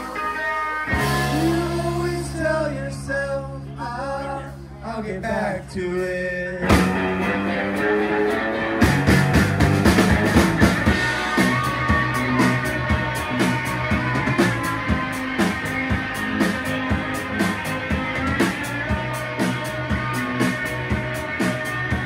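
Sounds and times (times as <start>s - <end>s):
rock band playing: 0.0s - 4.8s, 6.0s - 22.0s.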